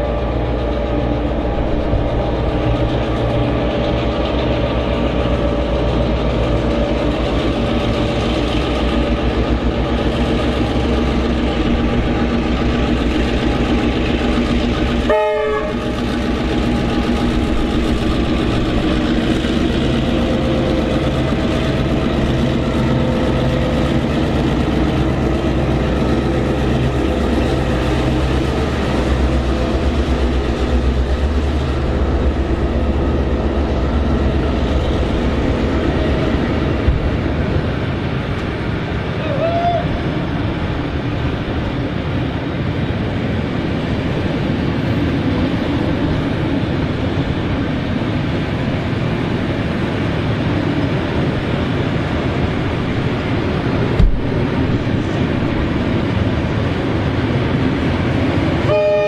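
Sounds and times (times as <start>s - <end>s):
diesel locomotive hauling train: 0.0s - 59.0s.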